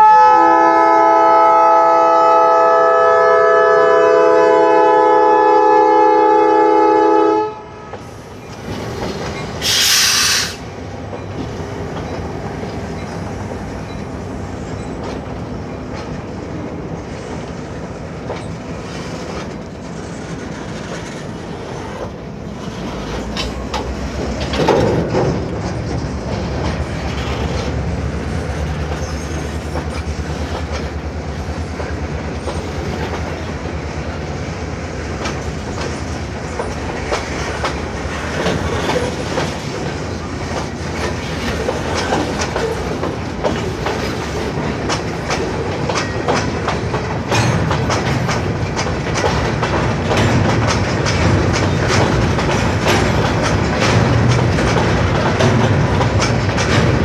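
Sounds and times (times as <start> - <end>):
freight train wheels clacking: 7.8 - 57.0.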